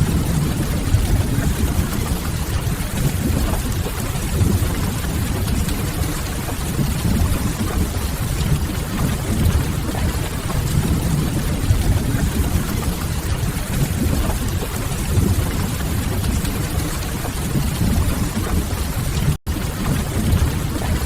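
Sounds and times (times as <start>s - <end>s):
steady rain rumble: 0.0s - 21.0s.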